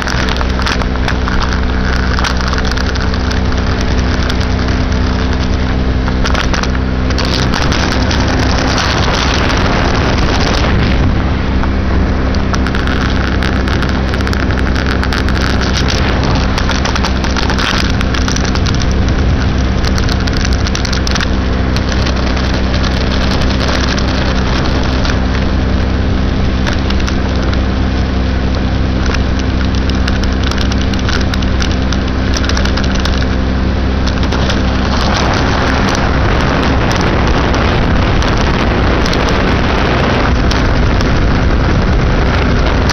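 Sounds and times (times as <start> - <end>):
moped engine running: 0.0 - 42.9
wind noise on microphone: 0.0 - 42.9.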